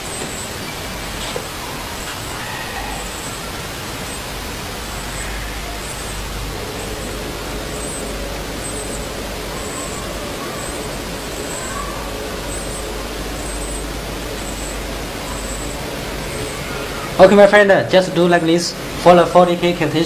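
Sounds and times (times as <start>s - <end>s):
machine steady hiss: 0.0s - 20.0s.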